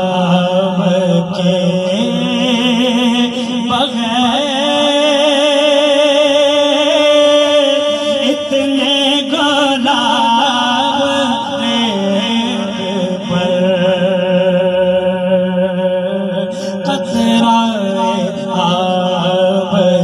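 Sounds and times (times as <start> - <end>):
man singing through a microphone: 0.0 - 20.0.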